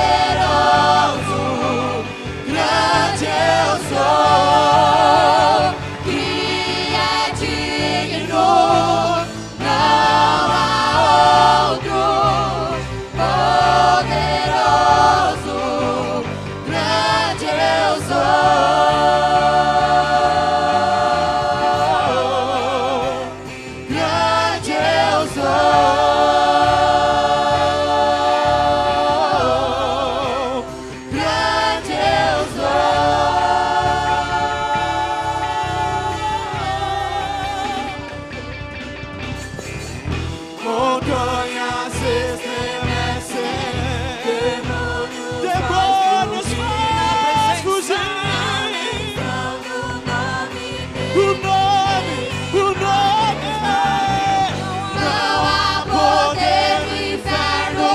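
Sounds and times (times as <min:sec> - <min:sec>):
band accompaniment: 0:00.0 - 0:57.9
choir singing gospel song: 0:00.0 - 0:57.9.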